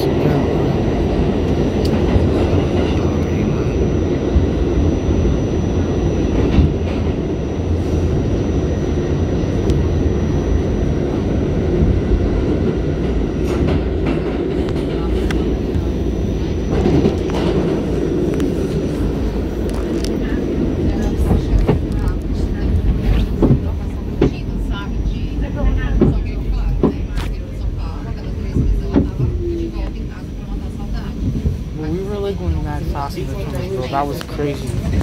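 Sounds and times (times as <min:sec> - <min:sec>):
subway train wheels rumbling on rails: 0:00.0 - 0:35.0.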